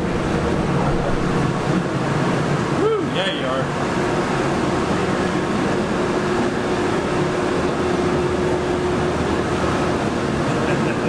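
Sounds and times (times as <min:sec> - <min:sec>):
constant hum tone: 0:00.0 - 0:11.0
furnaces and blowers running: 0:00.0 - 0:11.0.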